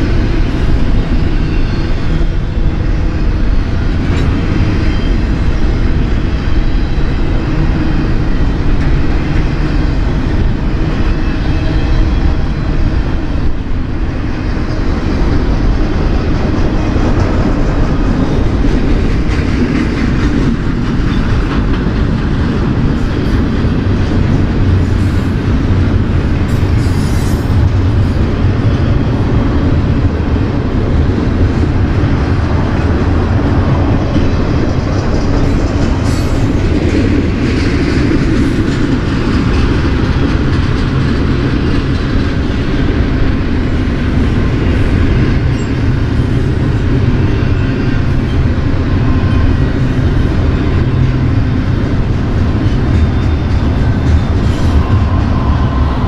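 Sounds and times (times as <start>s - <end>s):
steel train wheels rumbling on rails: 0.0s - 56.0s.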